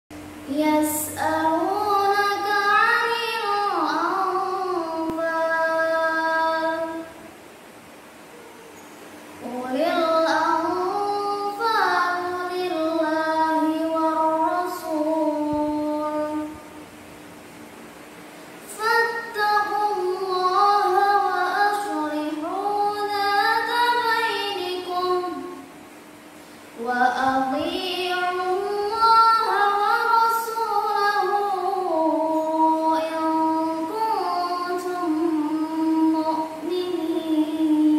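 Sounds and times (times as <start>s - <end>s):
girl chanting melodically: 0.4s - 7.3s, 9.4s - 16.9s, 18.6s - 25.7s, 26.8s - 37.9s.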